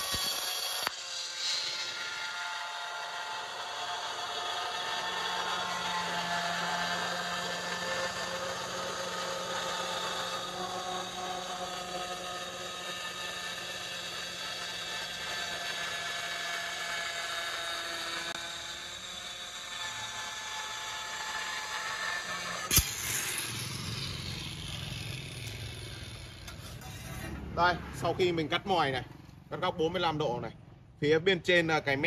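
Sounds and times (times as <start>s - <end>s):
cutting disc whining through tile: 0.0s - 27.6s.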